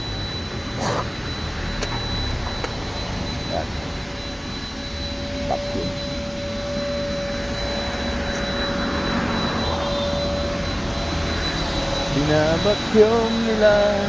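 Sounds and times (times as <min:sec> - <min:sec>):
steady whine: 0:00.0 - 0:14.0.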